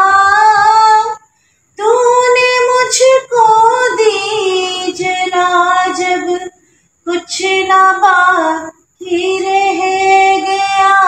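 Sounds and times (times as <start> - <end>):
woman singing a hymn: 0.0 - 11.0.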